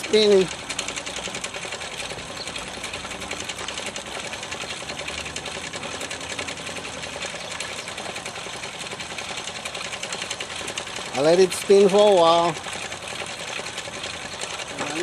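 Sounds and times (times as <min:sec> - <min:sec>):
wood lathe clattering: 0:00.0 - 0:15.0.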